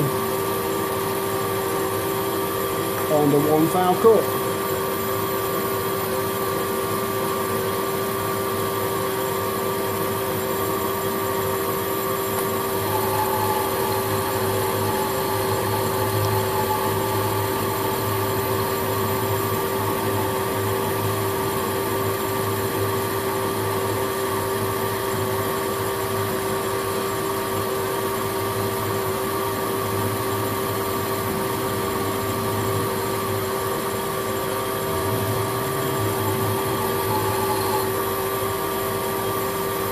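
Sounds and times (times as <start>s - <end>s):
lathe humming with a whine: 0.0s - 39.9s.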